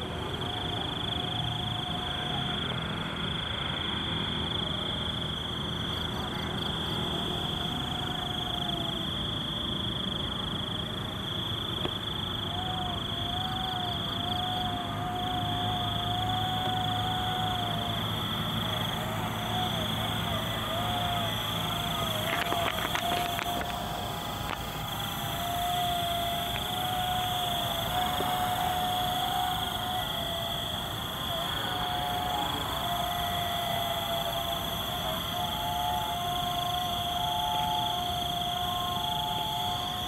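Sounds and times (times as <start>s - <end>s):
night insects trilling: 0.0s - 40.0s.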